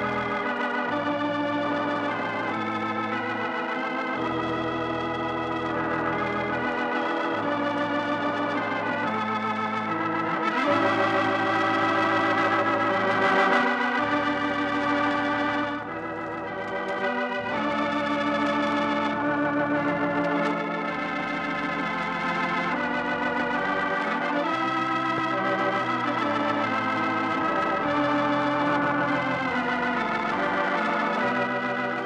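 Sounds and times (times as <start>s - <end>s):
organ playing sustained chords: 0.0s - 32.0s.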